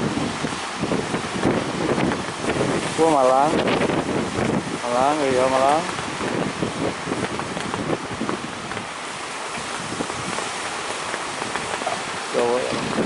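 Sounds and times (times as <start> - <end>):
big waves breaking: 0.0 - 13.0
wind buffeting microphone: 0.0 - 13.0.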